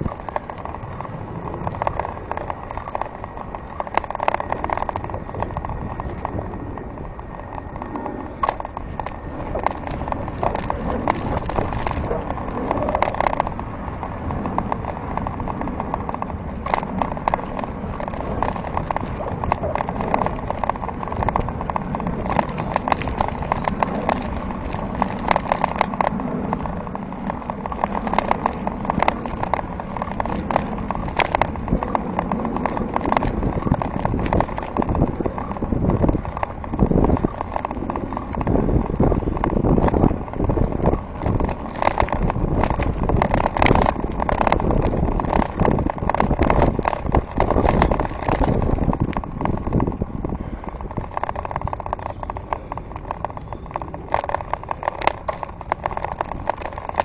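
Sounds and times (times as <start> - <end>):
bicycle tyres rumbling on tarmac: 0.0 - 57.0
bike rattling knocks: 0.0 - 57.0.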